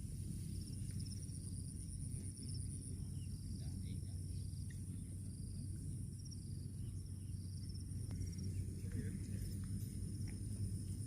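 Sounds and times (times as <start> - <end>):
insect chirps: 0.0 - 11.0
insect pulsing trill: 0.0 - 11.0
low wind rumble: 0.0 - 11.0.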